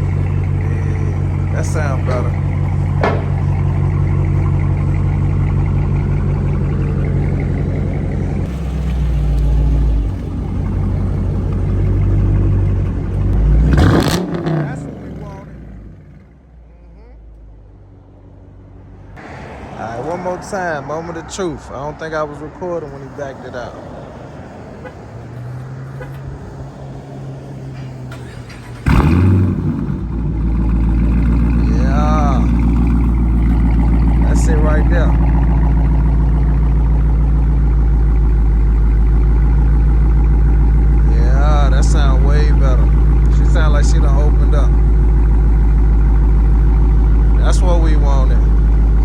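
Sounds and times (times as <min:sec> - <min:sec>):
low steady exhaust note: 0:00.0 - 0:19.0, 0:28.3 - 0:49.0.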